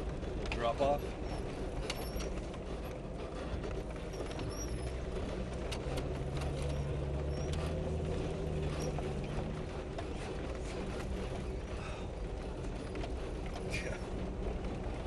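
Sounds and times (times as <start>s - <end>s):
vehicle clicks and knocks: 0.0s - 15.0s
vehicle engine running: 0.0s - 15.0s.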